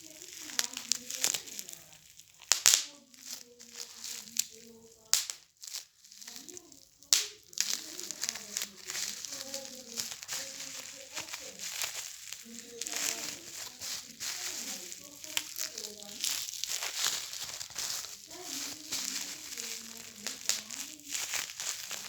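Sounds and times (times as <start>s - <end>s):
plastic popping and crinkling: 0.0s - 22.0s.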